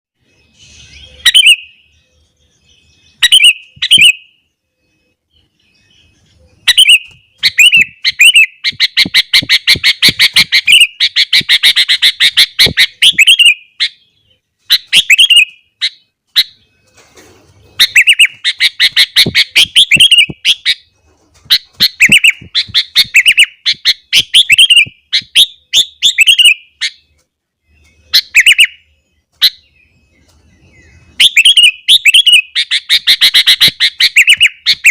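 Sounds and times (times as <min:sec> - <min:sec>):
bird singing: 0:00.2 - 0:34.9.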